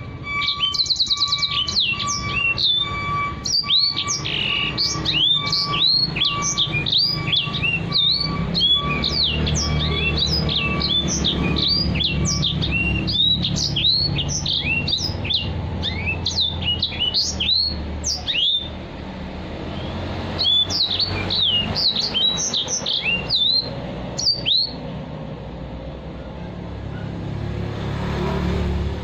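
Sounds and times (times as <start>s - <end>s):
finch singing whistled notes: 0.0s - 18.8s, 19.6s - 25.0s.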